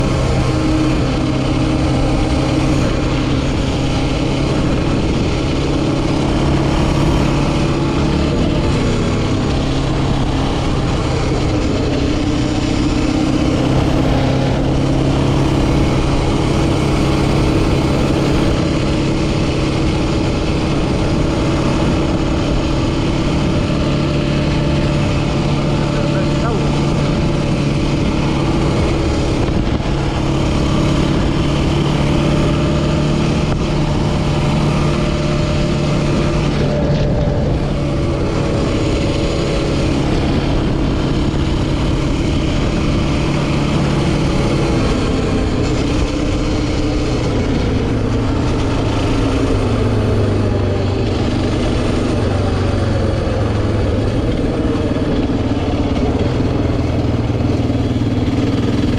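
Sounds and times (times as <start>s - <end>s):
quad engine running: 0.0s - 58.9s.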